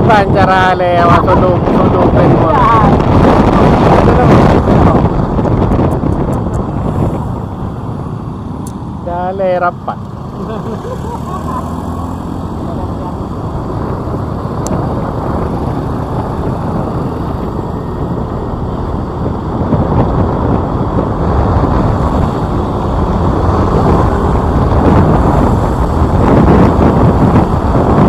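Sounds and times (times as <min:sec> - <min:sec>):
traffic noise: 0:00.0 - 0:28.0
wind buffeting microphone: 0:00.0 - 0:28.0.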